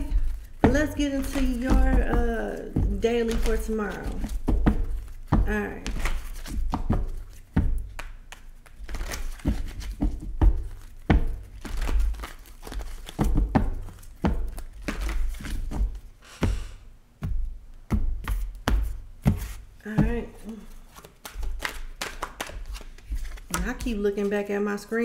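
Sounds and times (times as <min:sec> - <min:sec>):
cards being shuffled: 0:00.0 - 0:16.1, 0:20.3 - 0:24.5.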